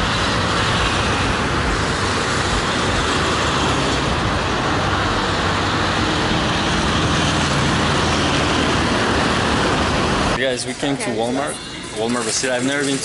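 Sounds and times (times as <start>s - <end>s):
motorcycle and road noise: 0.0s - 13.0s.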